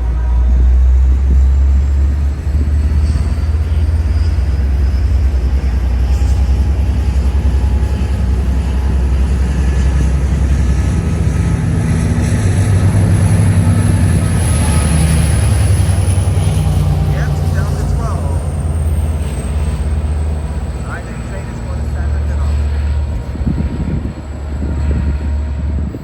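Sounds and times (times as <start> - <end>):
diesel train rumbling: 0.0 - 26.0.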